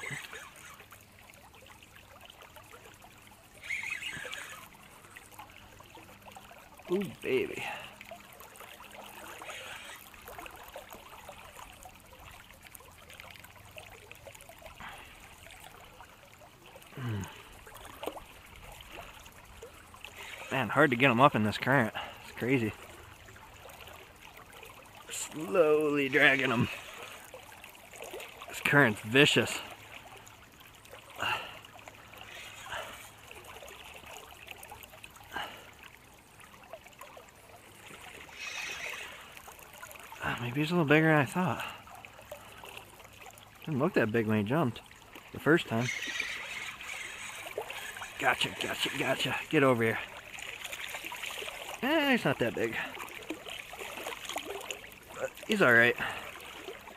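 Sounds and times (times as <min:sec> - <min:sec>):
river flowing and trickling: 0:00.0 - 0:56.9
small splashes and clicks: 0:00.0 - 0:56.9.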